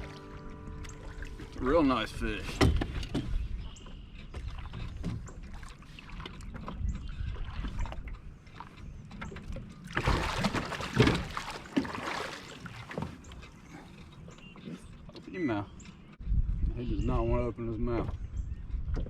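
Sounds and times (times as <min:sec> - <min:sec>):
water sloshing: 0:00.0 - 0:16.2.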